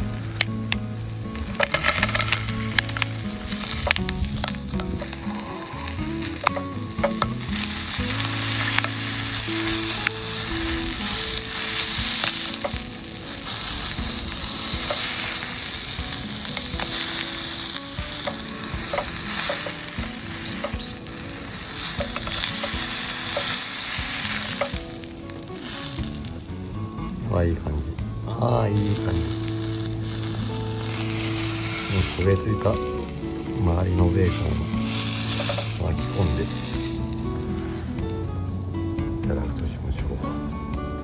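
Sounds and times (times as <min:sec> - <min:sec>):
bacon sizzling in a pan: 0:00.0 - 0:39.2.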